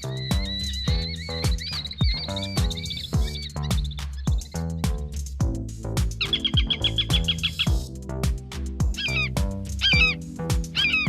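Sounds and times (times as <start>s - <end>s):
music with kick-drum beat: 0.0s - 11.0s.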